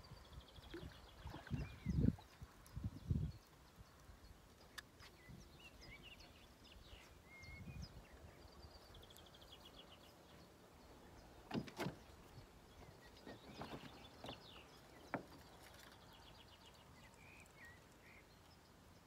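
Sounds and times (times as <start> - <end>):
faint high bird chirps: 0.0 - 10.4, 12.8 - 18.8.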